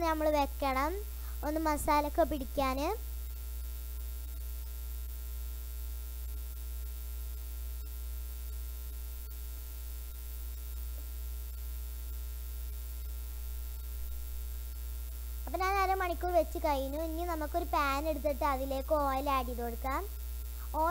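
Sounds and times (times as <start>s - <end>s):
electrical mains hum: 0.0s - 20.9s
thin even buzz: 0.0s - 20.9s.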